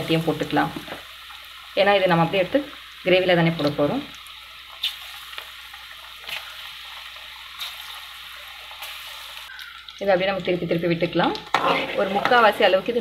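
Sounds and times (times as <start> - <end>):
batter deep-frying in hot oil: 0.0 - 13.0.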